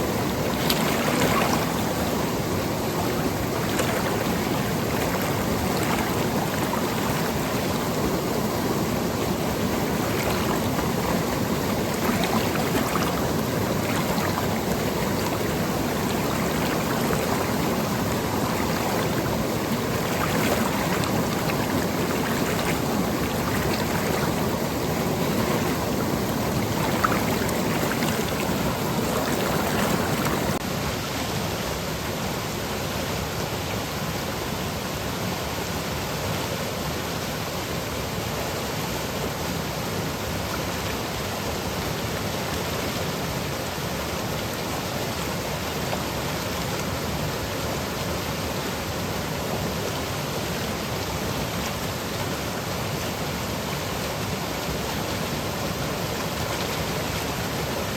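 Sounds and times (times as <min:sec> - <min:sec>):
stream flowing over rocks: 0:00.0 - 0:57.9.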